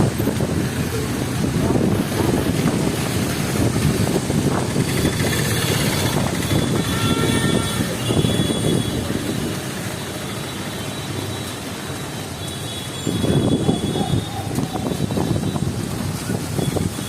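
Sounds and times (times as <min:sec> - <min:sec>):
vehicle passing on wet street: 0:00.0 - 0:17.0.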